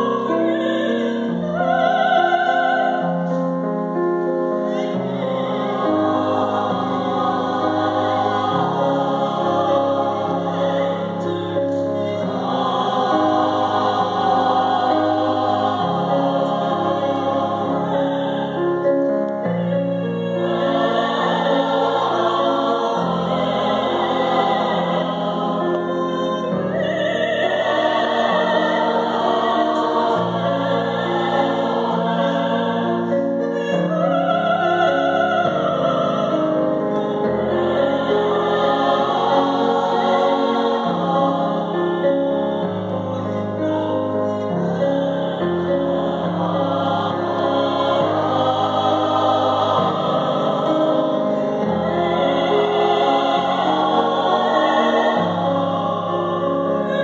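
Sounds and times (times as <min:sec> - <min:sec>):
choir singing a carol: 0:00.0 - 0:57.0
keyboard accompaniment: 0:00.0 - 0:57.0.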